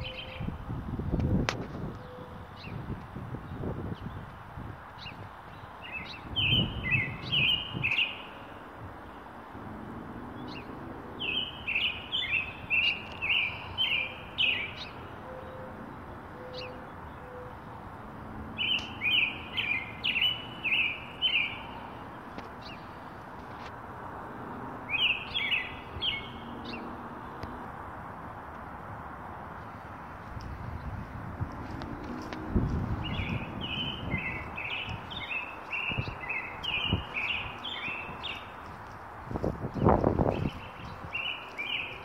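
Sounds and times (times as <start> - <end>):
songbird singing: 0.0 - 27.9, 29.6 - 42.0.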